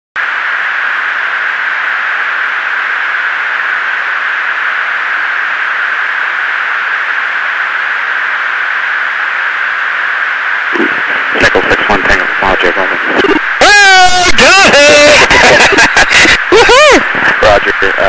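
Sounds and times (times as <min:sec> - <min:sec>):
intercom radio hiss: 0:00.2 - 0:18.0.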